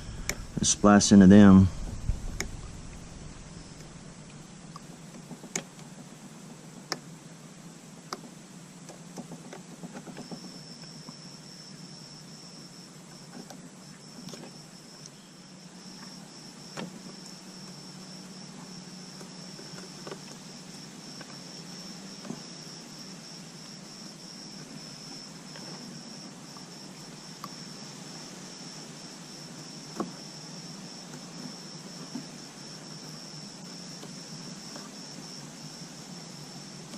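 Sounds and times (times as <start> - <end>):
continuous high-pitched tone: 0.0 - 5.8, 6.9 - 36.9
steady low hum: 0.0 - 9.5, 10.2 - 36.9.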